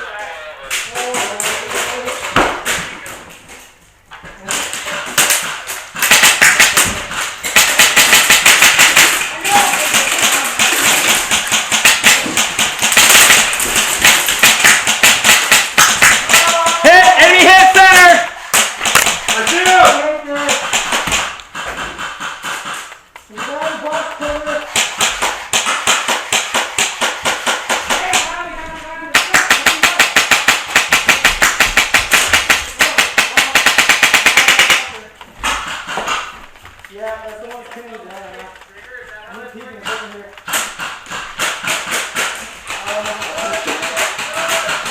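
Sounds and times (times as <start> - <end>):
airsoft guns firing: 4.4 - 44.9.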